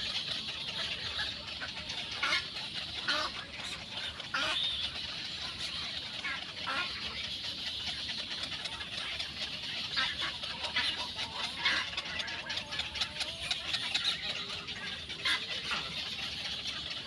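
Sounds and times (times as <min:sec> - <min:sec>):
birds clucking calls: 0:00.0 - 0:17.0.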